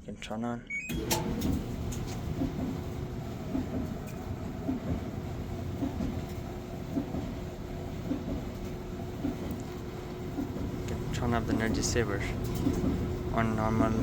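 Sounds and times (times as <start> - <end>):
dryer motor and drum rumble: 0.8 - 14.0.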